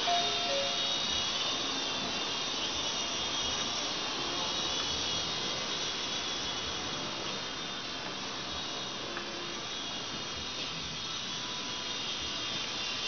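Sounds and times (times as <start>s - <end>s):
toy helicopter motor whine: 0.0s - 13.0s.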